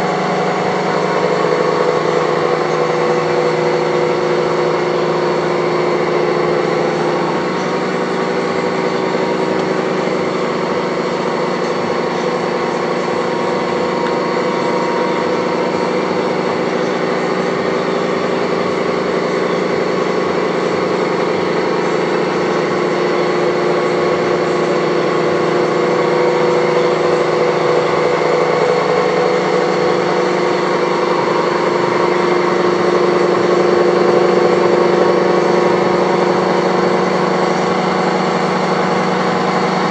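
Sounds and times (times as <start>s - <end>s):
boring mill machine drone: 0.0s - 39.9s.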